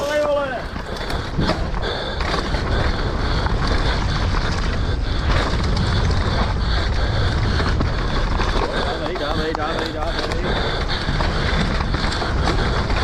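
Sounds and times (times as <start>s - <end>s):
bike tyres rumbling and rattling: 0.0s - 13.0s
wind buffeting microphone: 0.6s - 13.0s.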